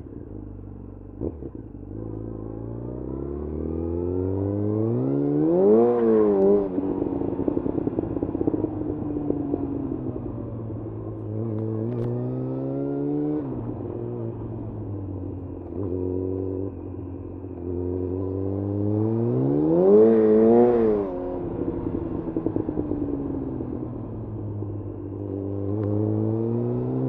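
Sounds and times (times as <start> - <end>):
motorcycle engine revving through gears: 0.0 - 27.0.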